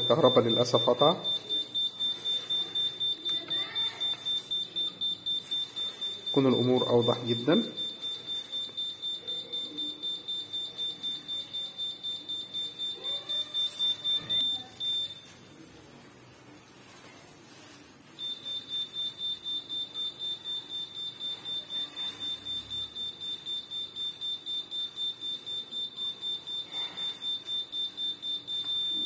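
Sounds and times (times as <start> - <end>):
high-pitched alarm beeping: 0.0 - 15.4, 17.6 - 29.0.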